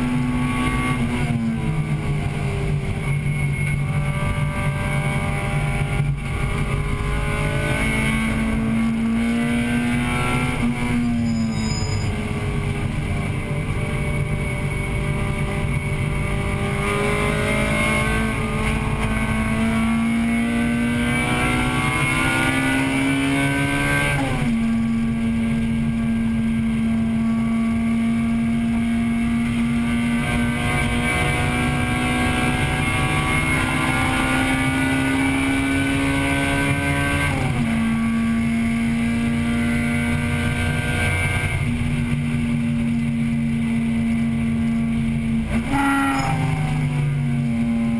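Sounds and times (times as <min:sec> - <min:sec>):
car engine at high revs: 0:00.0 - 0:47.9
road and wind rumble: 0:00.0 - 0:47.9.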